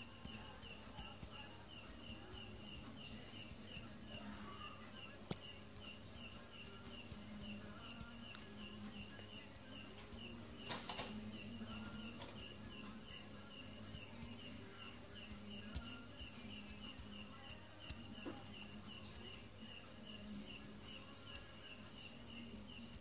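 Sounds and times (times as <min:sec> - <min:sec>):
faint high chirping: 0:00.0 - 0:23.0
steady low hum: 0:00.0 - 0:23.0.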